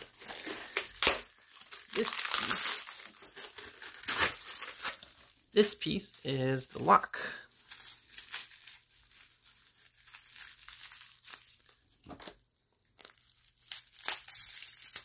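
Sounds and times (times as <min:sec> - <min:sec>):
plastic wrapping crinkling and tearing: 0:00.0 - 0:15.0.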